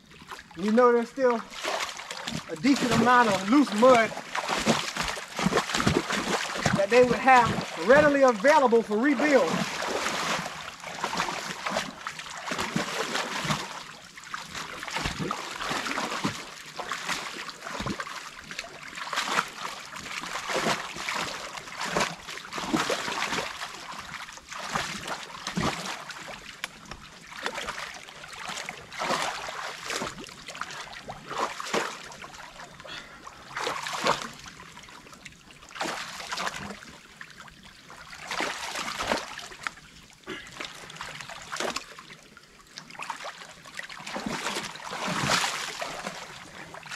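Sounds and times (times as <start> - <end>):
creek water splashing and trickling: 0.0 - 46.9.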